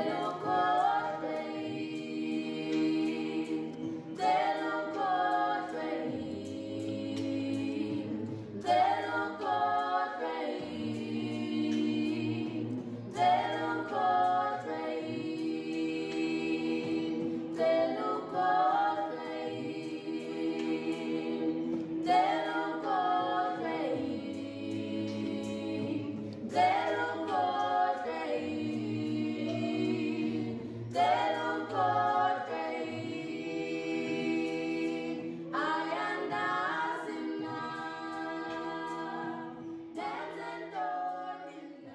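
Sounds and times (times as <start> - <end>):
voices singing over sustained part: 0.0 - 41.9.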